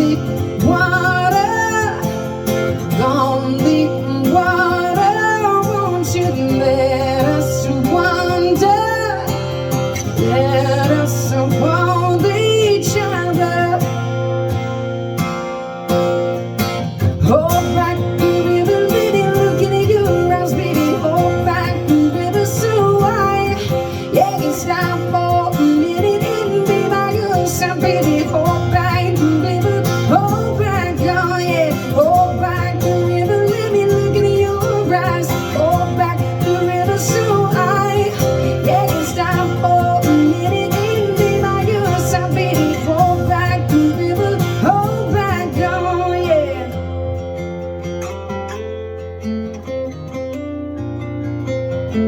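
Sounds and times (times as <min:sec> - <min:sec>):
person singing: 0:00.0 - 0:14.1, 0:17.0 - 0:47.1
guitar accompaniment: 0:00.0 - 0:52.0.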